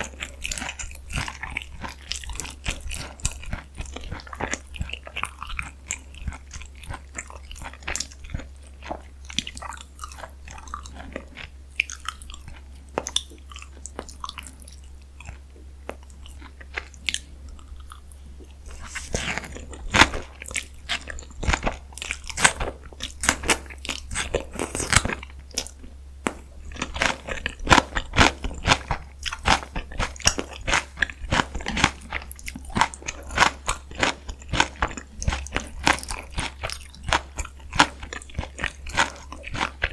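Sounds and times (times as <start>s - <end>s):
crunching of fried food: 0.0s - 39.9s
soft chewing: 0.0s - 39.9s.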